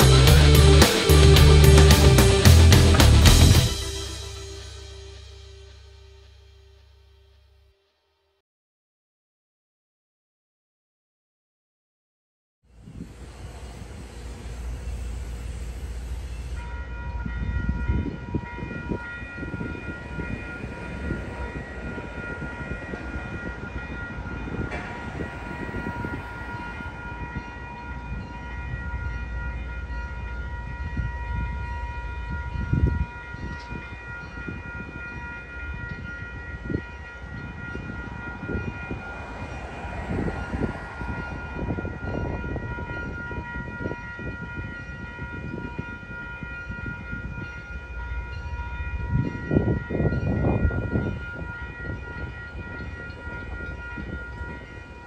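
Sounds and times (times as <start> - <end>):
diesel train high whine: 0.0 - 7.6, 12.7 - 55.0.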